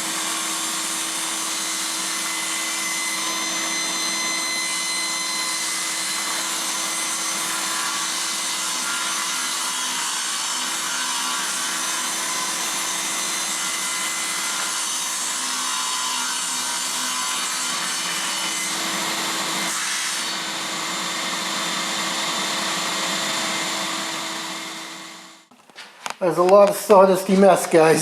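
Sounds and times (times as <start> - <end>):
power saw cutting plywood: 0.0 - 25.4.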